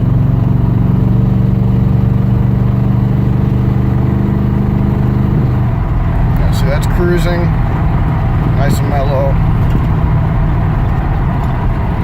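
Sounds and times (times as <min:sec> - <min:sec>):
car engine cruising heard from cabin: 0:00.0 - 0:12.0.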